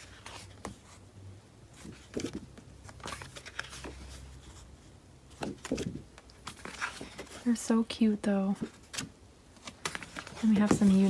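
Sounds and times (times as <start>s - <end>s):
paper rustling and crinkling: 0.0s - 1.0s, 1.7s - 7.6s, 8.6s - 11.0s.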